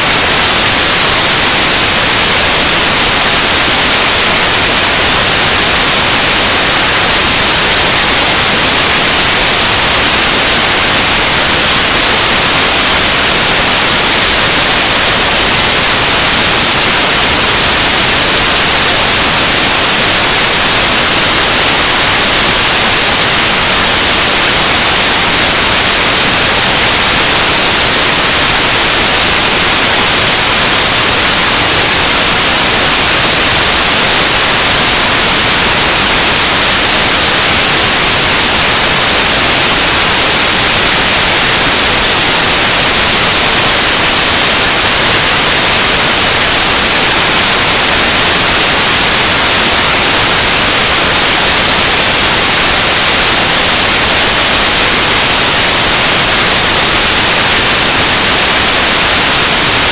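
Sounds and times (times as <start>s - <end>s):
harsh noise music hiss: 0.0s - 59.9s.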